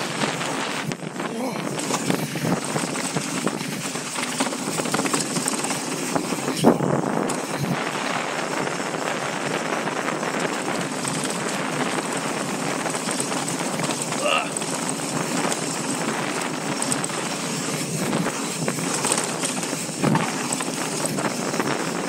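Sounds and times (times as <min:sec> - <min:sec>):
bike rattling over dirt and rock: 0:00.0 - 0:22.0.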